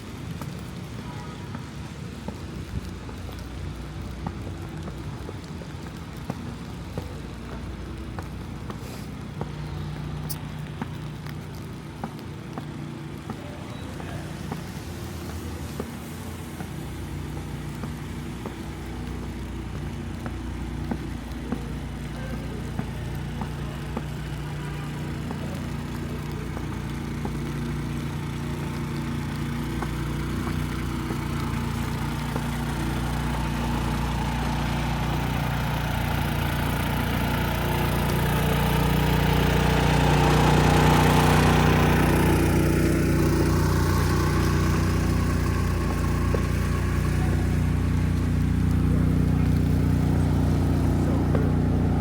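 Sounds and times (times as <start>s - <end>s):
vehicle engine humming: 0.0s - 52.0s.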